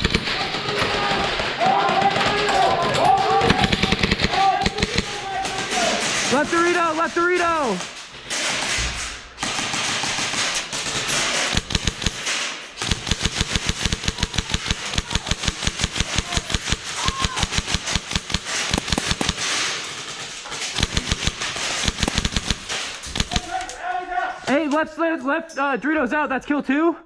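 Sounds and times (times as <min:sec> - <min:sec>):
airsoft guns firing: 0:00.0 - 0:23.8.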